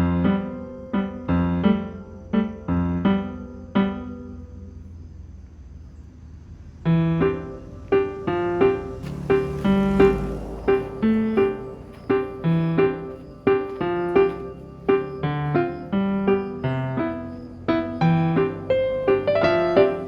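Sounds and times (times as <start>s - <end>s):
gentle piano music: 0.0s - 5.4s, 6.8s - 20.0s.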